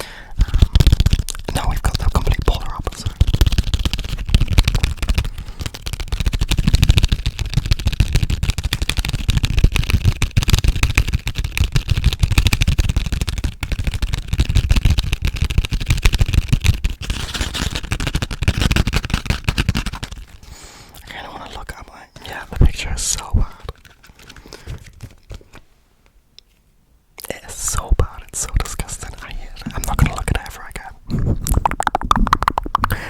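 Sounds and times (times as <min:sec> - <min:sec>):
tapping and scratching on microphone: 0:00.0 - 0:20.4, 0:21.0 - 0:25.7, 0:27.2 - 0:33.0.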